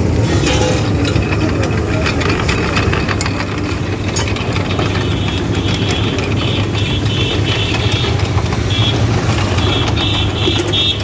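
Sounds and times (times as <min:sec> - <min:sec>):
juice crusher engine knocking rumble: 0:00.0 - 0:11.0.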